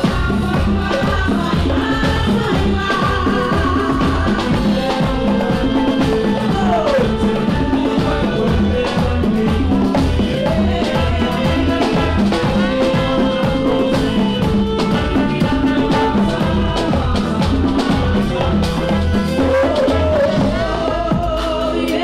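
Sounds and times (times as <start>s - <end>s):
bongos: 0.0s - 22.0s
live latin pop band: 0.0s - 22.0s
woman singing: 0.0s - 22.0s.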